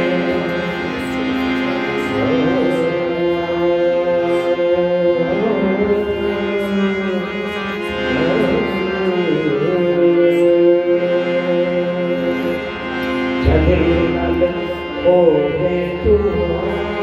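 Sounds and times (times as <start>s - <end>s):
harmonium melody: 0.0s - 17.0s.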